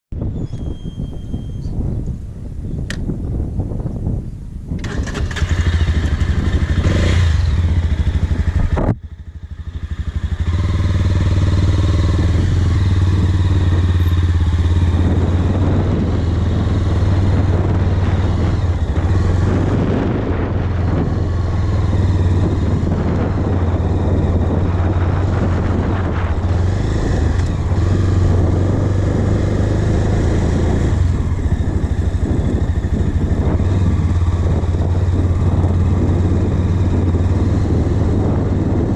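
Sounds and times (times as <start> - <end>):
motorcycle engine running: 4.8 - 38.9.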